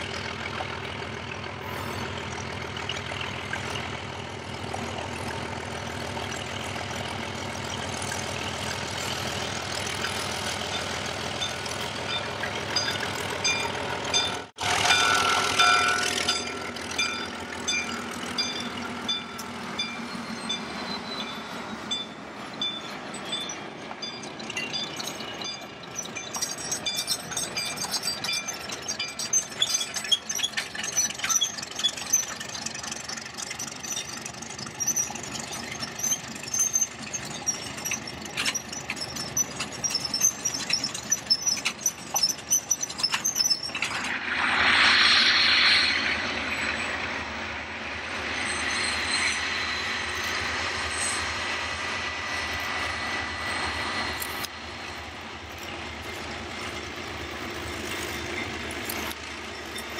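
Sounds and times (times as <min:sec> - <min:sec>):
diesel locomotive engine running: 0:00.0 - 0:59.9
wheels squealing and clicking on rails: 0:00.0 - 0:59.9.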